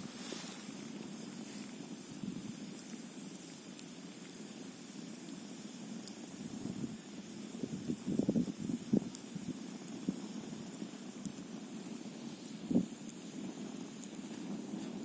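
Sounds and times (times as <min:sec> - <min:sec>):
campfire flames rushing: 0:00.0 - 0:15.0
faint fire crackles: 0:00.0 - 0:15.0
steady hiss: 0:00.0 - 0:15.0.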